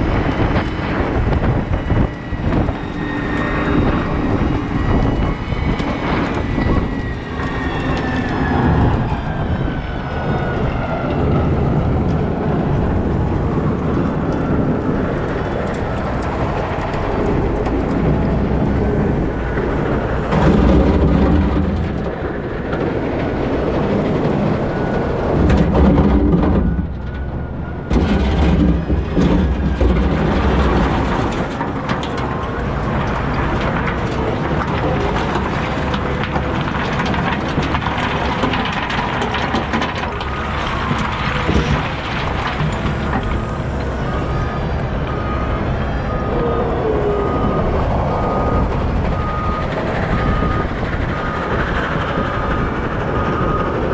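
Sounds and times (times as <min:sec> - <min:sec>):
wheel loader diesel engine running: 0:00.0 - 0:53.9.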